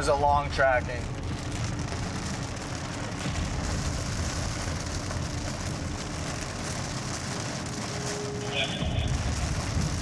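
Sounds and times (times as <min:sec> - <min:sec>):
low vehicle rumble: 0:00.0 - 0:10.0
rain pattering on a car: 0:00.0 - 0:10.0.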